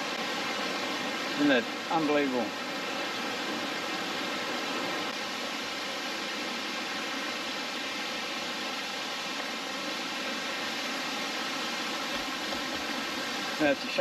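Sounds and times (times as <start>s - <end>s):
waterfall pouring: 0.0s - 14.0s.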